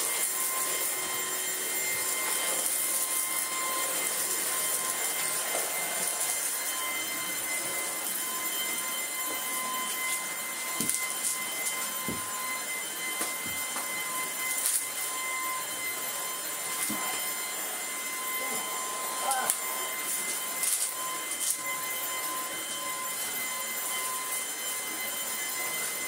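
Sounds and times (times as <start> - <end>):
vacuum cleaner motor whine: 0.0 - 26.0.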